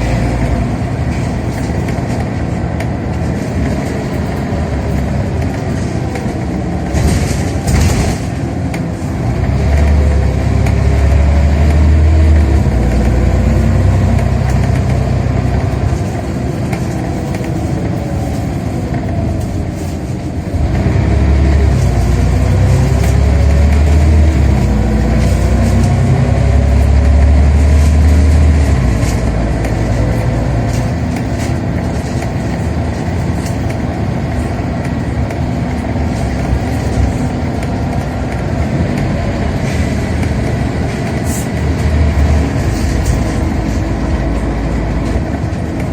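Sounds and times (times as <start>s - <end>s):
bus engine revving through gear changes: 0.0s - 45.9s.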